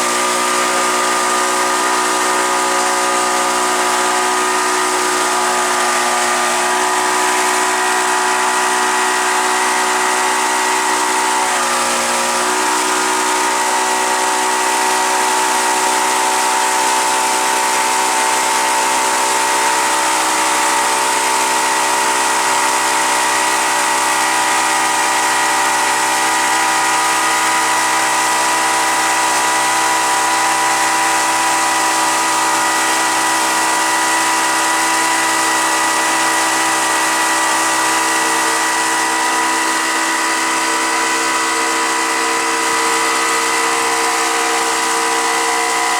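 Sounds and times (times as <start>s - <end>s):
motorboat engine running: 0.0s - 45.9s
rushing water: 0.0s - 45.9s.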